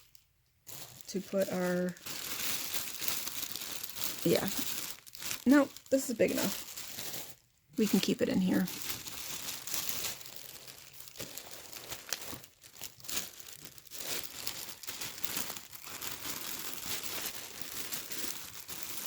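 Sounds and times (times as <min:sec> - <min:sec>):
crinkly bag rustling: 0:00.0 - 0:19.0.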